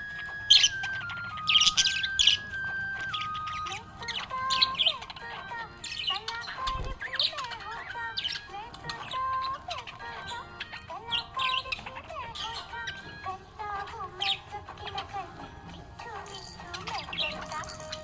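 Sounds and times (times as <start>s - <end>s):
budgerigars chirping: 0.0s - 18.0s
budgerigars warbling chatter: 0.0s - 18.0s.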